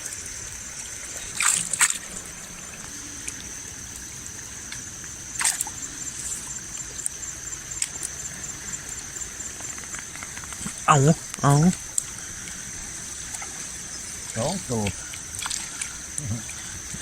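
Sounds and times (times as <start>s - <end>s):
high-pitched insect drone: 0.0s - 17.0s
water splashing and dripping: 0.0s - 17.0s.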